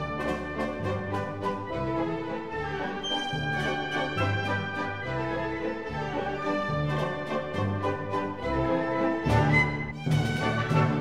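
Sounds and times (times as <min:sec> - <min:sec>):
orchestral music with strings: 0:00.0 - 0:11.0.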